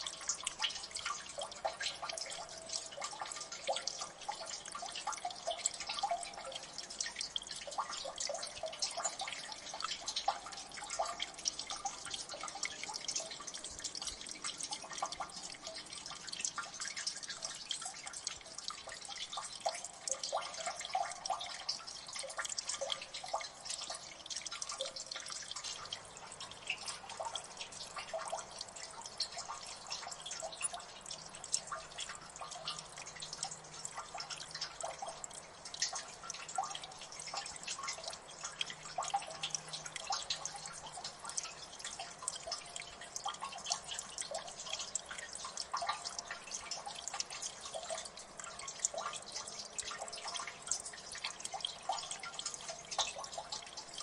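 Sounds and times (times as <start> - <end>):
water drips plinking into water: 0.0 - 54.0.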